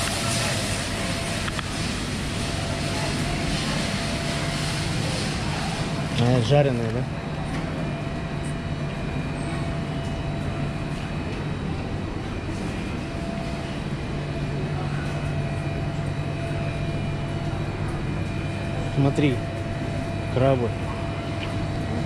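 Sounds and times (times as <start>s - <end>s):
refrigeration machine hum: 0.0s - 22.0s.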